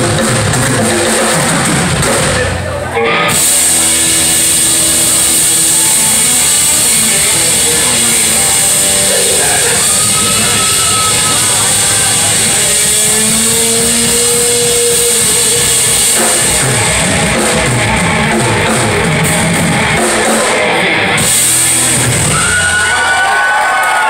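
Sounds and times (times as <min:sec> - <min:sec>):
held electric guitar notes: 0:00.0 - 0:23.0
live rock band playing: 0:00.0 - 0:24.0.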